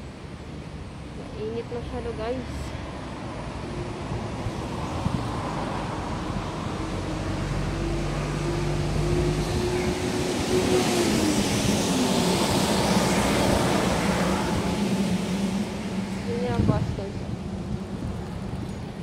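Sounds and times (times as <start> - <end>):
bus engine hum: 0.0 - 19.0.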